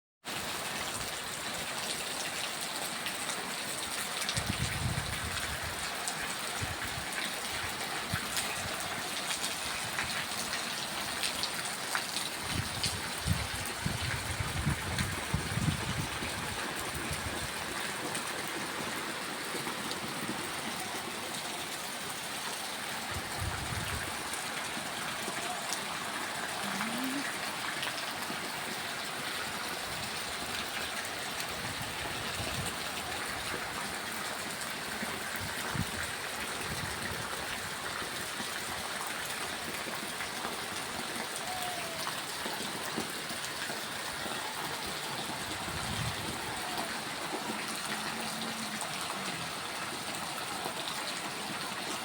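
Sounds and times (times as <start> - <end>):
steady rain falling: 0.2 - 52.0.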